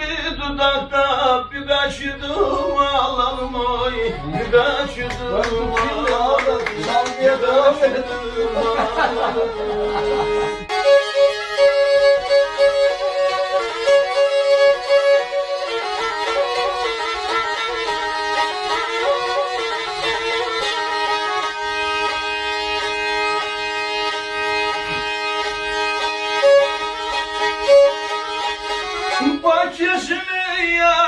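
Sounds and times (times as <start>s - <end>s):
bowed string instrument melody: 2.8s - 29.6s.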